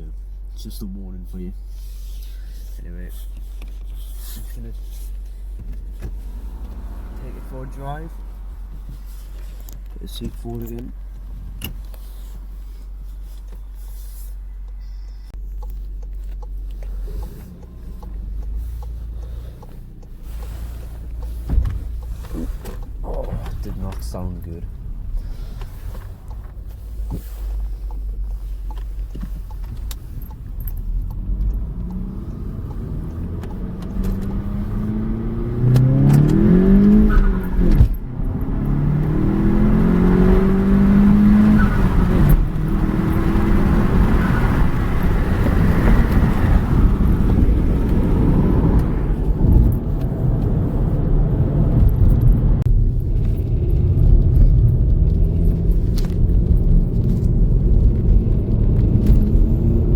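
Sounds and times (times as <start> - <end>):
car engine revving while driving: 4.4 - 13.4, 15.4 - 59.9.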